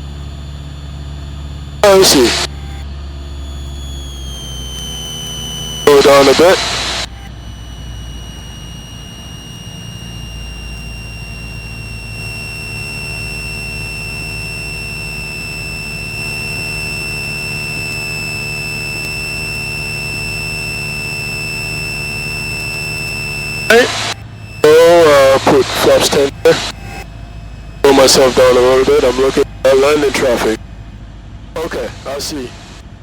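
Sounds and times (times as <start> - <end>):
high-pitched electronic whine: 0.0 - 33.0
light aircraft engine drone: 0.0 - 33.0.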